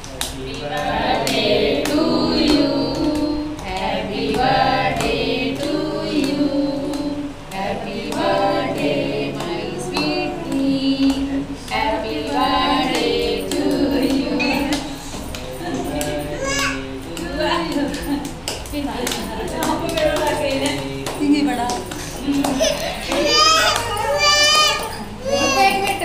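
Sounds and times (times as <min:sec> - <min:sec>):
group of people singing together: 0:00.0 - 0:26.0.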